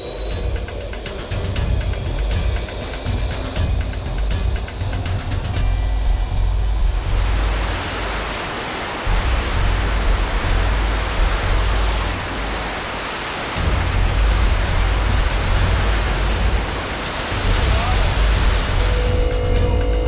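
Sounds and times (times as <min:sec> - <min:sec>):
deep low rumble: 0:00.0 - 0:08.5, 0:09.1 - 0:13.0, 0:13.6 - 0:20.0
high-pitched turbine whine: 0:00.0 - 0:20.0
jet turbine roaring: 0:00.0 - 0:20.0.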